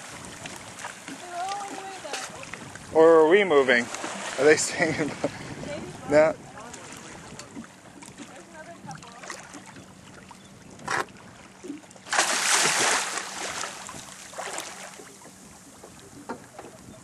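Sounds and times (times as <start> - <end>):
water splashing: 0.0 - 16.8.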